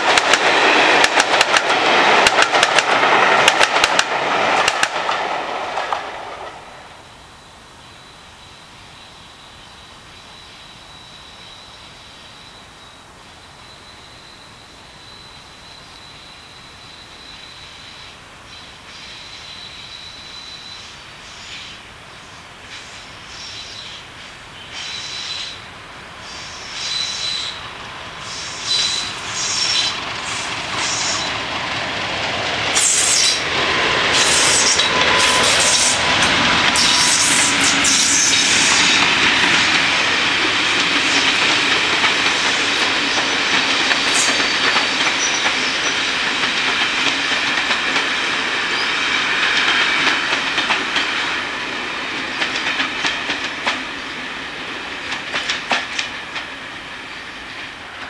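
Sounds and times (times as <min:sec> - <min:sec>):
coaches clickety-clack over rail joints: 0:00.0 - 0:07.1, 0:13.6 - 0:58.0
diesel locomotive engine passing: 0:00.0 - 0:58.0.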